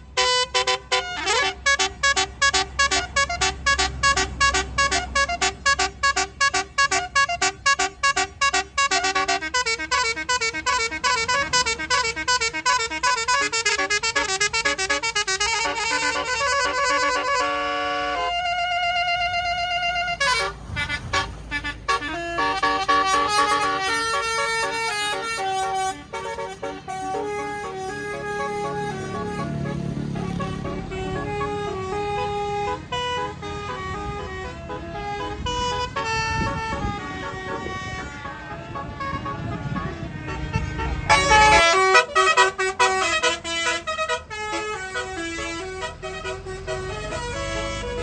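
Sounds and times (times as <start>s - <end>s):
bus horn playing a melody: 0.0s - 48.0s
low engine rumble: 0.0s - 48.0s.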